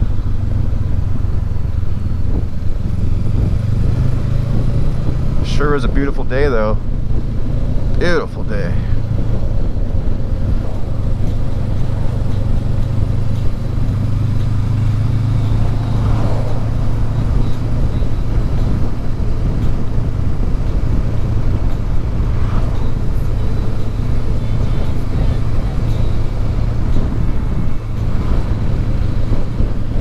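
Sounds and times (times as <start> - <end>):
motorcycle engine drone: 0.0 - 30.0
road and wind noise: 0.0 - 30.0.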